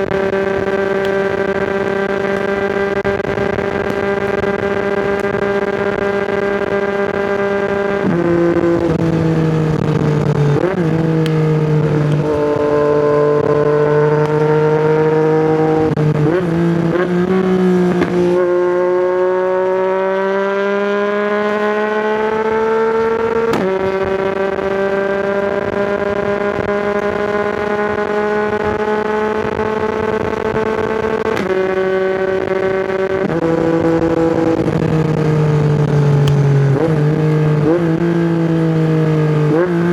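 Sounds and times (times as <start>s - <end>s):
motorcycle engine pulling: 0.0s - 39.9s.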